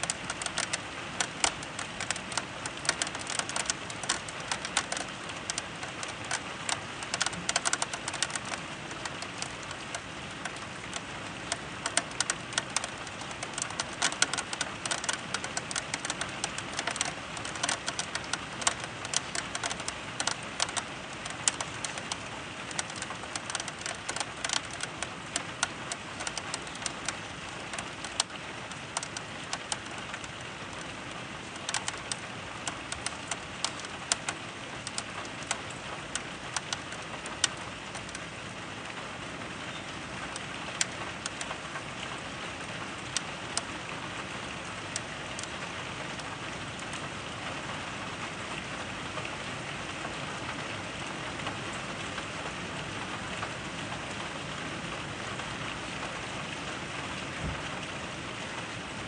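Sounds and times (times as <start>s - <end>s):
rain hiss: 0.0s - 59.0s
raindrops tapping close by: 0.0s - 59.0s.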